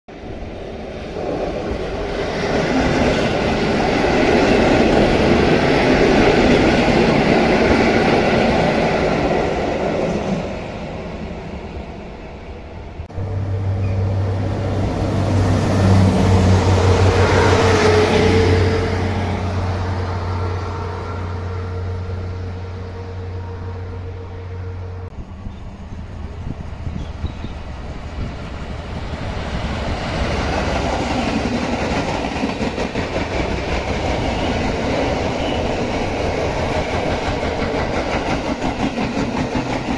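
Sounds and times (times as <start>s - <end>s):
diesel railbus engine drone: 0.1s - 39.9s
electric train running on rails: 0.1s - 39.9s
passenger train approaching: 0.1s - 39.9s
train wheel noise: 0.1s - 39.9s.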